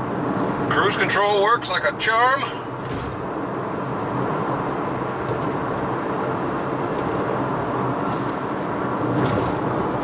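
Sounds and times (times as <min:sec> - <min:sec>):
car engine drone: 0:00.0 - 0:10.0
road noise inside car: 0:00.0 - 0:10.0.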